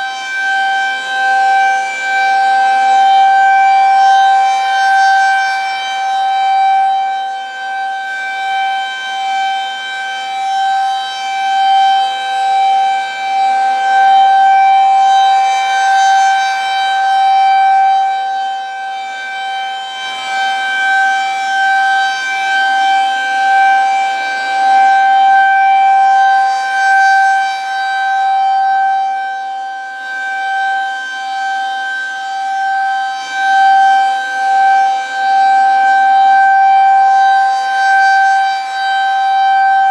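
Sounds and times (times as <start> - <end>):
rotating siren steady tone: 0.0 - 39.9.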